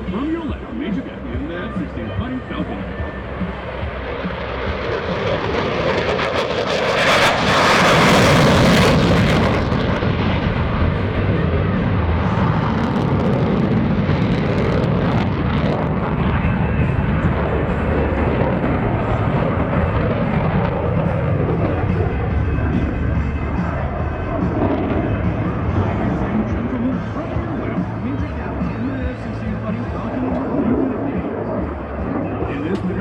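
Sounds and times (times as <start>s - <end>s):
jet engine roar: 0.0s - 33.0s.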